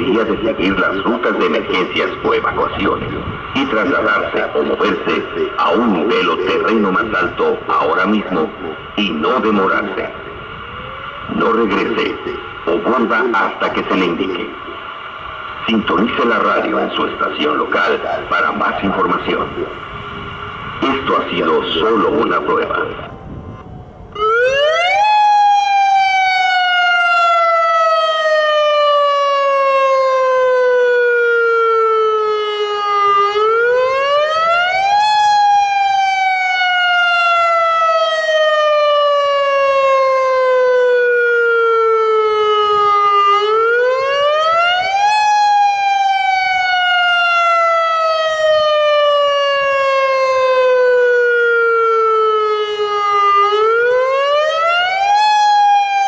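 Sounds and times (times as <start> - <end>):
siren wailing: 0.0 - 56.0.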